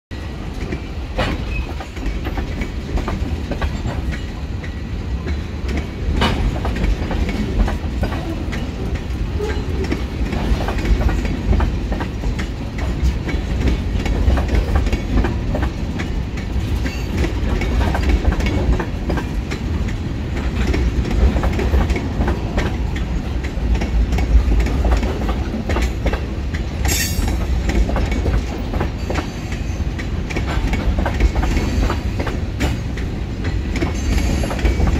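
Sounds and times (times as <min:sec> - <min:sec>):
freight train rolling past: 0:00.1 - 0:34.9
train wheels knocking on rail joints: 0:00.4 - 0:34.9.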